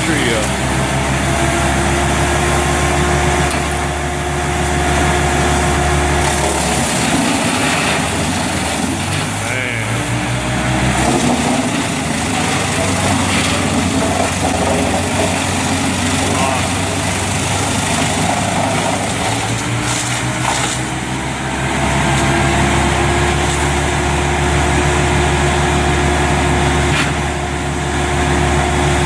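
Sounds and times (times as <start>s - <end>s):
heavy machinery engine running: 0.0s - 29.0s.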